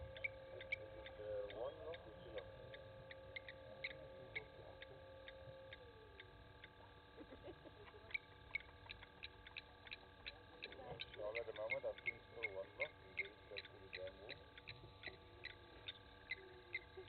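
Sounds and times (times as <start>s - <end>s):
faint regular ticking: 0.0s - 17.0s
faint steady tone: 0.0s - 17.0s.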